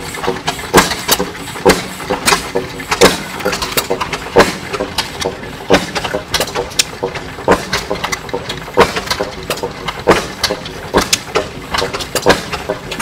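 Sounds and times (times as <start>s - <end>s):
engine clicks and chuffs: 0.0s - 13.0s
engine exhaust pops: 0.0s - 13.0s.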